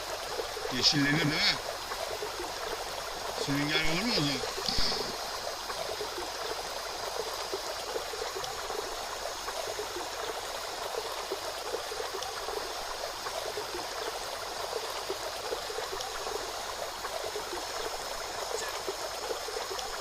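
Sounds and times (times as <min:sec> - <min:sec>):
small splashes and gurgles: 0:00.0 - 0:20.0
stream water rushing: 0:00.0 - 0:20.0.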